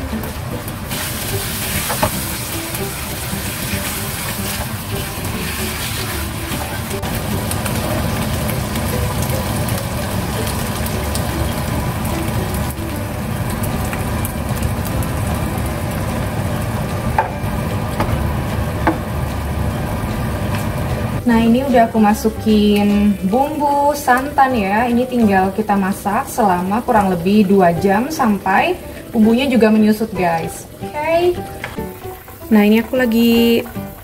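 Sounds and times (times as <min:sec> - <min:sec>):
meat sizzling in a wok: 0:00.0 - 0:34.0.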